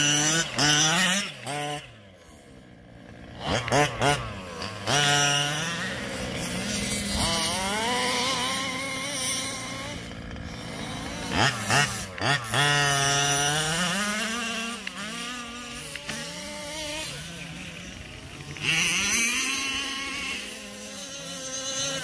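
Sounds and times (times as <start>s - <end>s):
small two-stroke engine revving: 0.0s - 22.0s.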